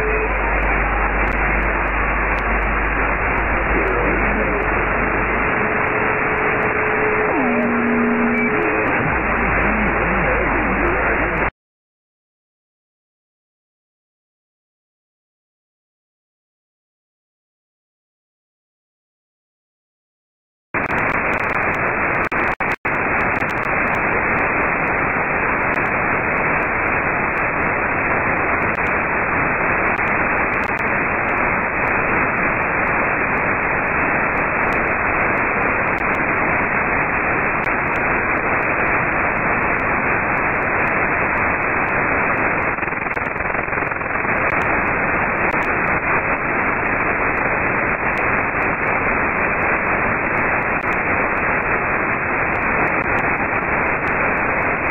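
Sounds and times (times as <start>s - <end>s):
radio receiver static hiss: 0.0s - 11.5s, 20.8s - 54.9s.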